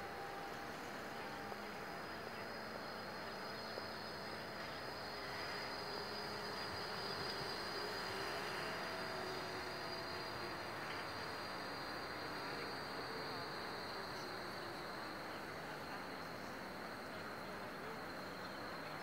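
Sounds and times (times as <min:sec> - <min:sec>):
tram electrical whine: 0:00.0 - 0:19.0.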